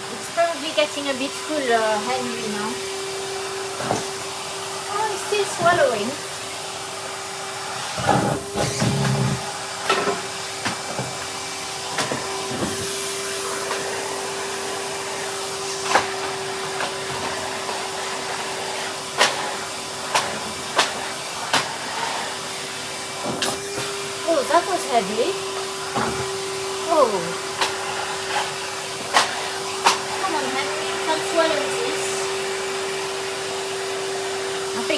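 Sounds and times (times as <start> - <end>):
vacuum cleaner motor hum: 0.0 - 34.9.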